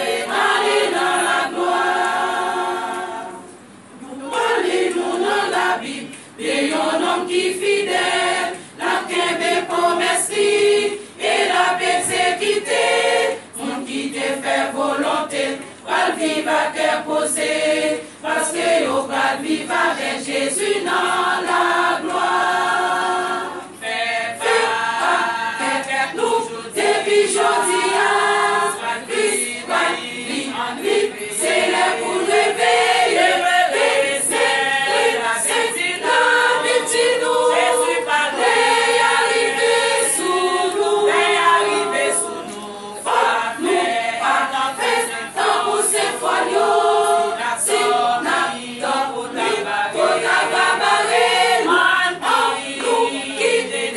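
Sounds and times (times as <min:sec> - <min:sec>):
women's choir singing a hymn: 0:00.0 - 0:53.9.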